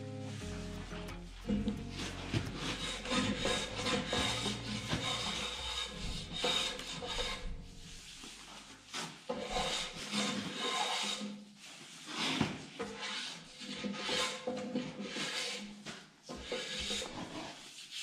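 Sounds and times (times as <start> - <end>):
hand plane scraping wood: 0.4 - 15.6, 16.3 - 18.0.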